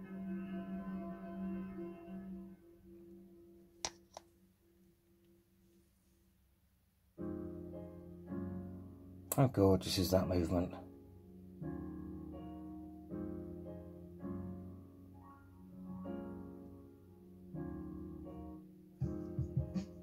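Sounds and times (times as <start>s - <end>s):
soft piano chords: 0.0s - 3.8s, 7.2s - 20.0s.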